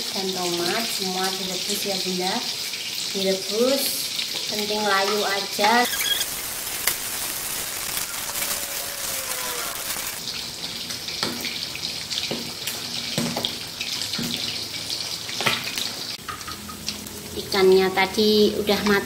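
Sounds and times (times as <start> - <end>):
water boiling in a saucepan: 0.0 - 9.6, 10.2 - 19.0.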